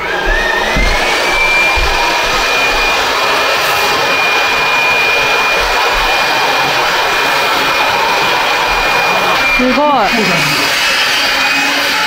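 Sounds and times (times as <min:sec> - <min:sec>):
electric blower whining: 0:00.0 - 0:12.0.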